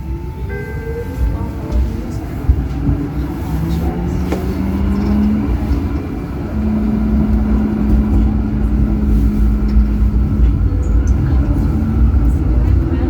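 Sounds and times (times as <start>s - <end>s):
tram rumbling along line: 0.0s - 13.0s.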